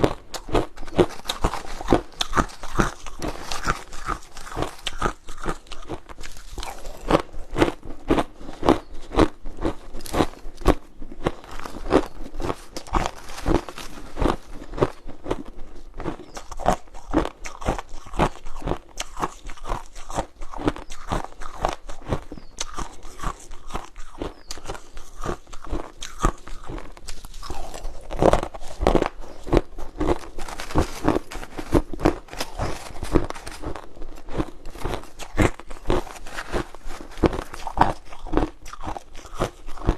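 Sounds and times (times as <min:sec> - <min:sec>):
close crunching: 0:00.0 - 0:39.9.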